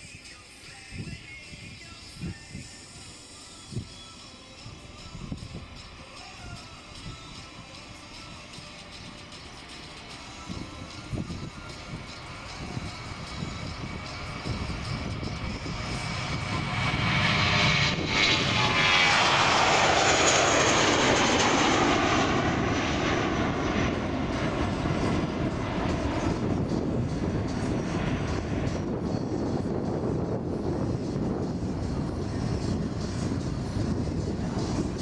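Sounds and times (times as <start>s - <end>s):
jet engines roaring at takeoff: 0.0s - 35.0s.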